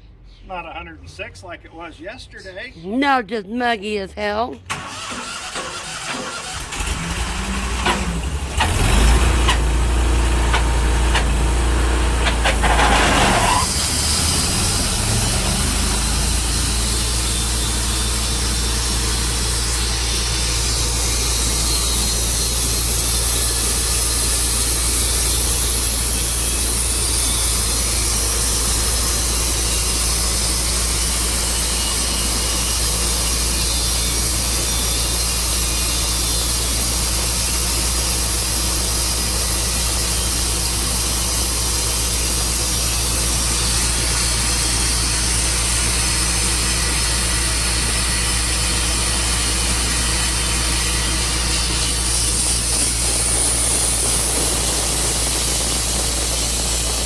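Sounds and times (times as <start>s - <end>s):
sawmill engine running: 4.7s - 57.0s.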